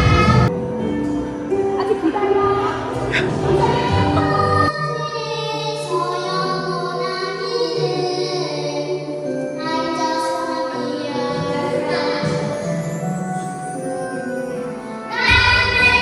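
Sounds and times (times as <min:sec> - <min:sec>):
children's choir singing: 0:00.0 - 0:00.8, 0:01.6 - 0:16.0.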